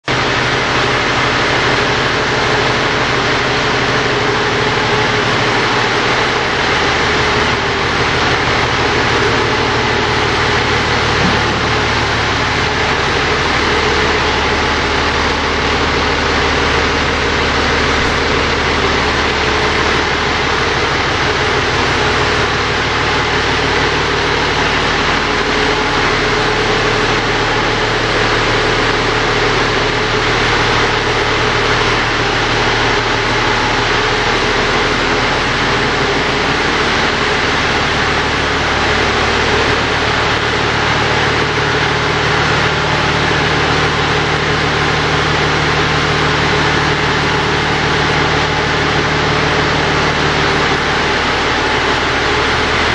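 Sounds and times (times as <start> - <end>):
fire engine engine humming: 0.0 - 52.9.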